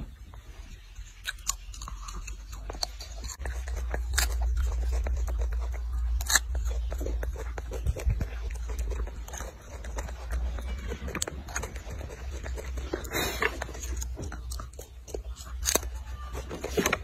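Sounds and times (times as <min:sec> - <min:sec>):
monkey chewing crunchy fruit: 0:00.0 - 0:17.0.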